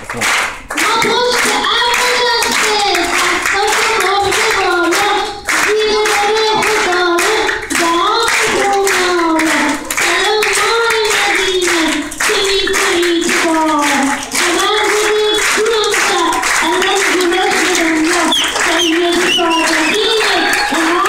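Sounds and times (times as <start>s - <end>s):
rhythmic hand-clapping: 0.0s - 21.0s
boy singing into microphone: 0.7s - 21.0s.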